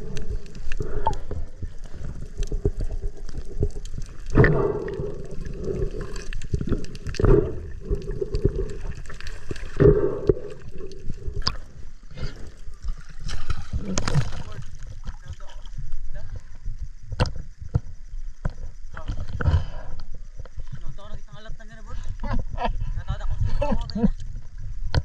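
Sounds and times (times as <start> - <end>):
muffled underwater gurgling: 0.0 - 25.0.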